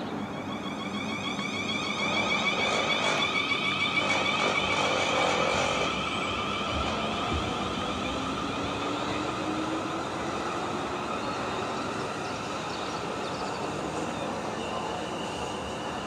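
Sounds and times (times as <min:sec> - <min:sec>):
electric train whine: 0:00.0 - 0:16.0
train running noise: 0:00.0 - 0:16.0.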